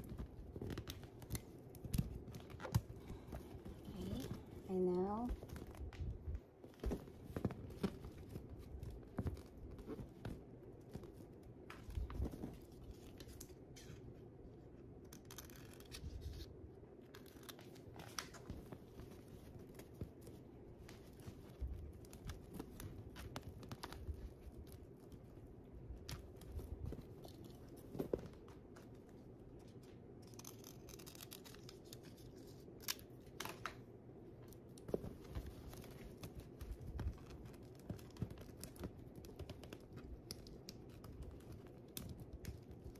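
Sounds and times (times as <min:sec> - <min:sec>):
plastic balloon being handled: 0:00.0 - 0:42.9.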